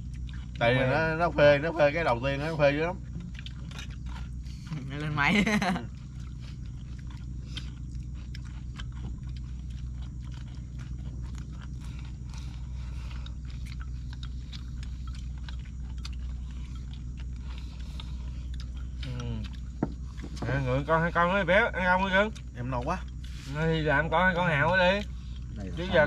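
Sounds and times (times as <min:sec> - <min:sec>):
people chewing and eating: 0:00.0 - 0:26.0
steady low hum: 0:00.0 - 0:26.0.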